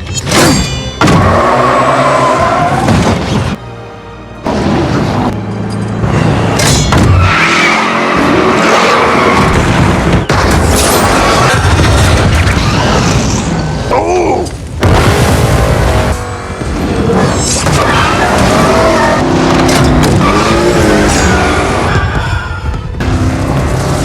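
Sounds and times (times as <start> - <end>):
dramatic music: 0.1 - 24.0
tyres skidding: 1.0 - 3.6, 4.3 - 24.0
car engine: 4.4 - 24.0.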